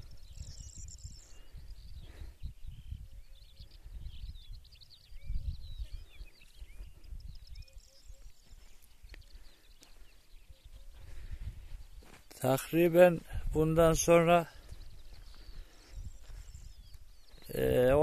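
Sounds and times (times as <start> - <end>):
wind rumbling on microphone: 0.0 - 12.2, 13.1 - 18.0
small birds chirping: 0.0 - 18.0.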